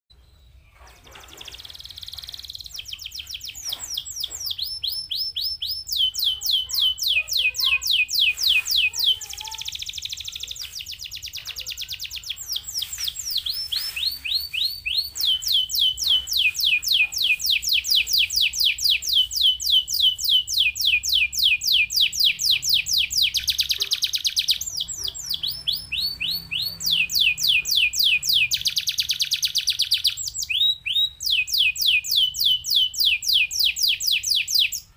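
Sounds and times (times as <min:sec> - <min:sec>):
canary singing rapid trills: 0:00.5 - 0:34.9.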